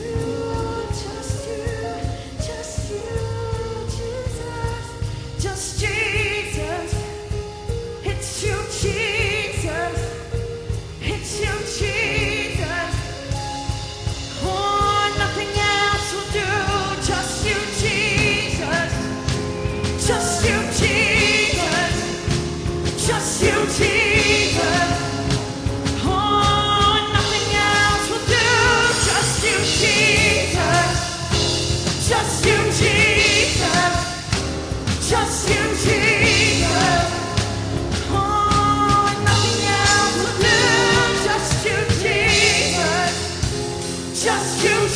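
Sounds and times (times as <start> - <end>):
worship band with singers: 0.0 - 44.9.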